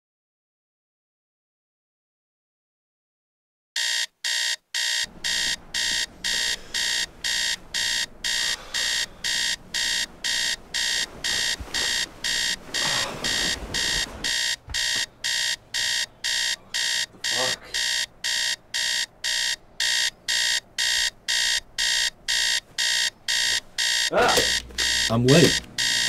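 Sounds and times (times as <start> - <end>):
alarm clock beeping: 3.8 - 26.0.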